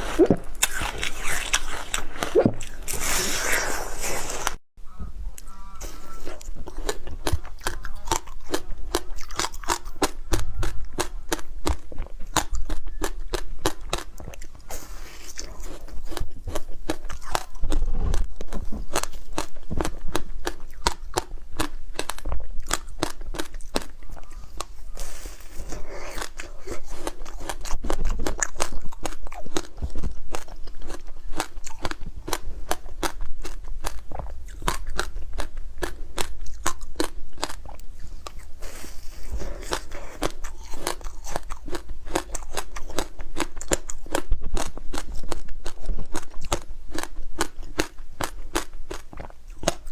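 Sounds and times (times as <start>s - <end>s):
ice crunching being chewed: 0.0s - 4.6s, 5.4s - 49.9s.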